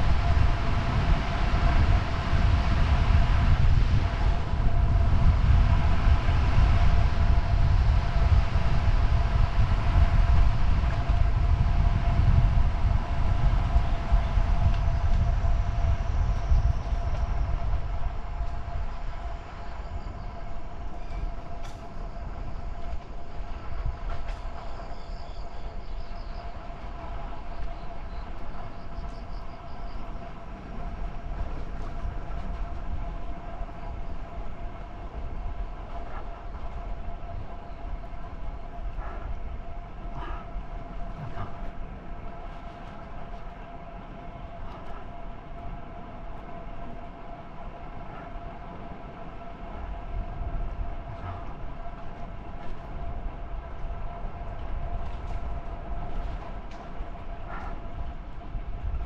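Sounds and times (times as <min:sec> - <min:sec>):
constant whine: 0:00.0 - 0:59.0
wind and road noise rumble: 0:00.0 - 0:59.0.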